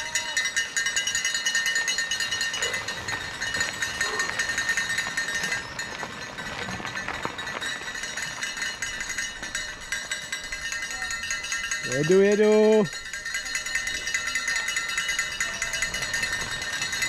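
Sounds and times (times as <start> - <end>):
cowbells ringing: 0.0 - 17.0.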